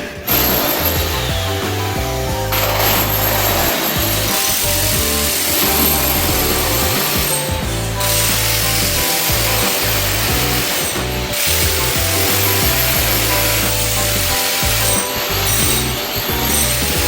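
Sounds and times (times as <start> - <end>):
background music: 0.0 - 17.0
power tools working wood: 0.0 - 17.0.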